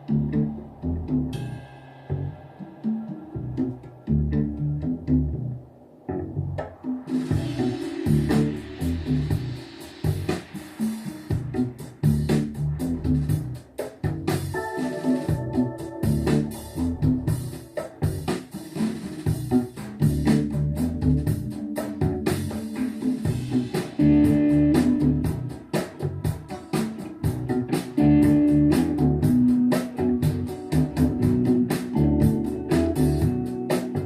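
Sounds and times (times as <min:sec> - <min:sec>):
instrumental rock music on loudspeakers: 0:06.6 - 0:34.0.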